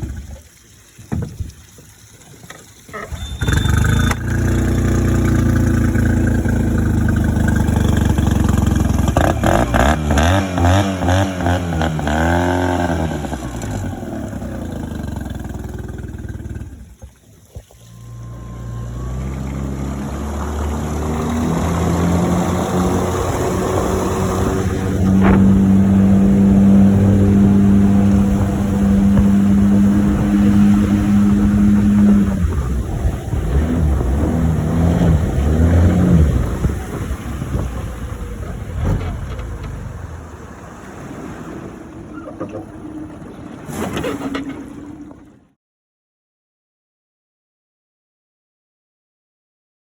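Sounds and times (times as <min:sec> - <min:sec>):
outboard motor running: 0:00.0 - 0:45.5.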